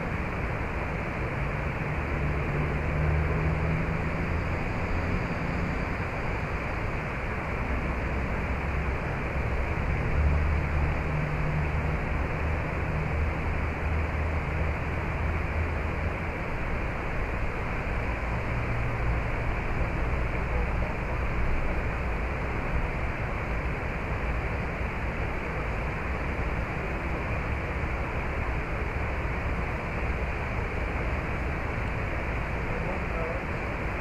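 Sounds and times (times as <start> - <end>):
low uneven rumble: 0.0 - 34.0
rushing outdoor ambience: 0.0 - 34.0.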